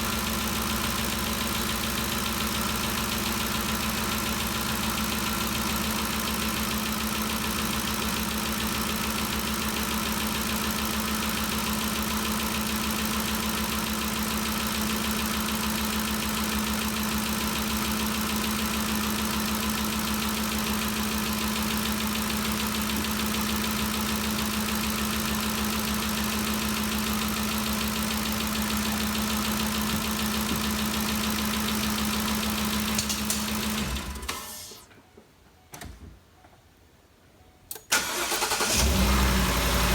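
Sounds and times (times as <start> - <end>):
car engine idling: 0.0 - 34.2, 37.9 - 39.9.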